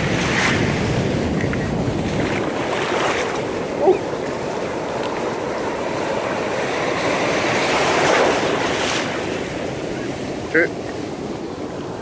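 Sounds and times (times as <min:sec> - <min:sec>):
ocean surf breaking: 0:00.0 - 0:12.0
wave splashing microphone: 0:00.0 - 0:12.0.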